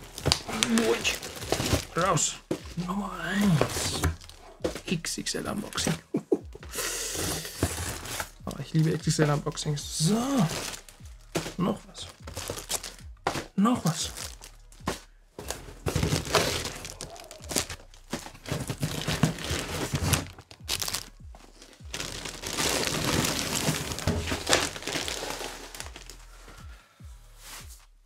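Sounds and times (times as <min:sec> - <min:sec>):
plastic bags crinkling: 0:00.0 - 0:05.9, 0:07.2 - 0:26.6.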